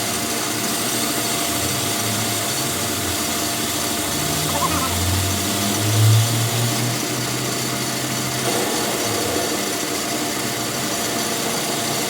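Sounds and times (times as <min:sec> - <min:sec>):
power tool running: 0:00.0 - 0:12.0.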